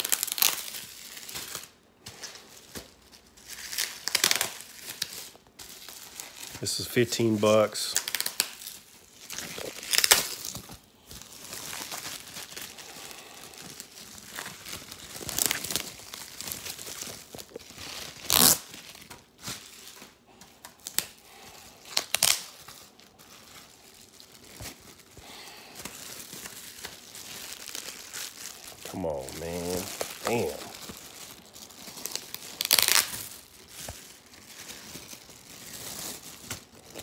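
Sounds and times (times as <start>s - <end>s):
plastic packaging crinkling: 0.0s - 37.0s
plastic packaging ripping: 0.0s - 37.0s.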